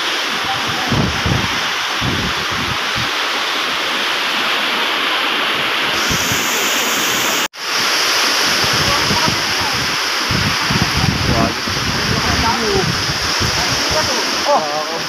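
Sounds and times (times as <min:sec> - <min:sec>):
surf washing onto beach: 0:00.0 - 0:15.0
wind rumbling on microphone: 0:00.0 - 0:15.0.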